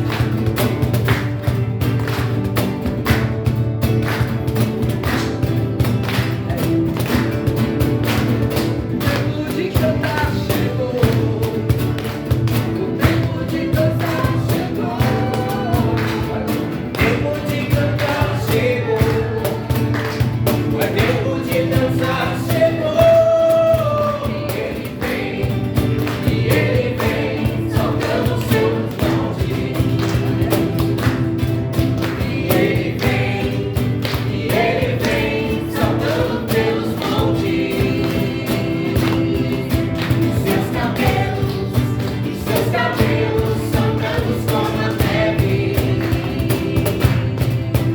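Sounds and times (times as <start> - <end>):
instrumental accompaniment with beat: 0.0 - 47.9
choir singing: 9.0 - 47.9.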